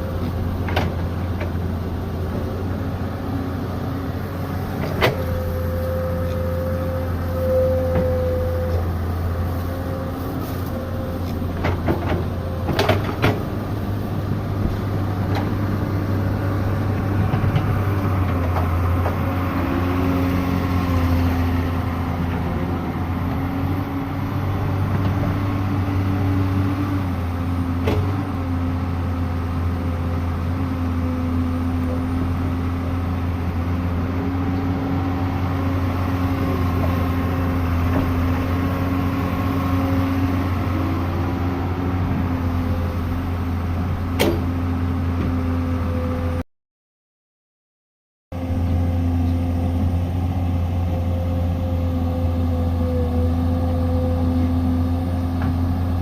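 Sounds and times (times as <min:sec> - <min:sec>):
excavator diesel engine running: 0:00.0 - 0:46.4, 0:48.4 - 0:56.0.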